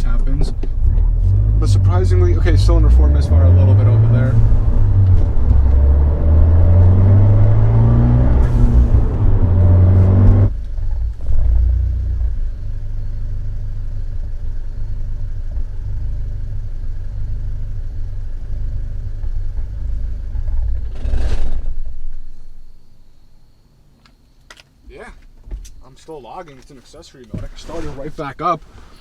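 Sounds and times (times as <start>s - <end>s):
steady low rumble: 0.0s - 23.2s.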